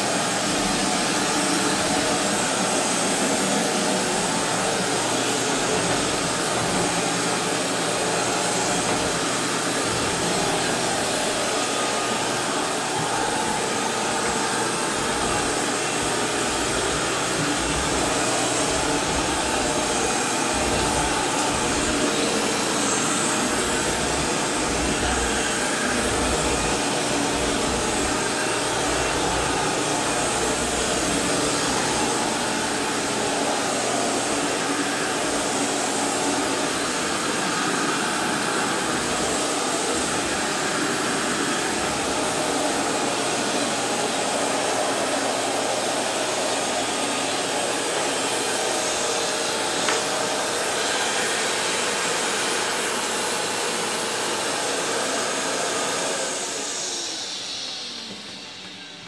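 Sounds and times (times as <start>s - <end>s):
vacuum cleaner on hard floor: 0.0s - 59.0s.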